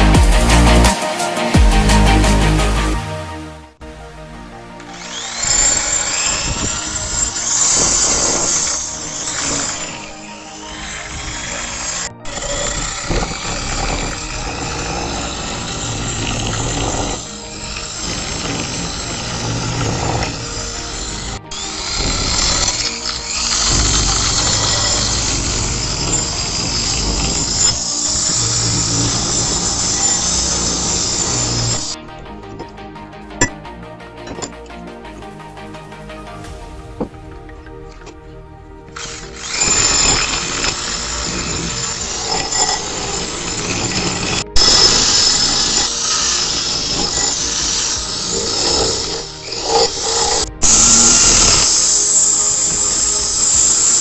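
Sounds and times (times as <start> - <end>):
wire brush grinding on steel: 4.8 - 54.0.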